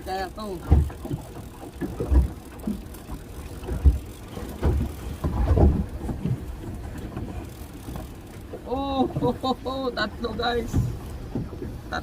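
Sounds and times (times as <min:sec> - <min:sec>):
low boat rumble: 0:00.0 - 0:12.0
waves knocking against hull: 0:00.0 - 0:12.0.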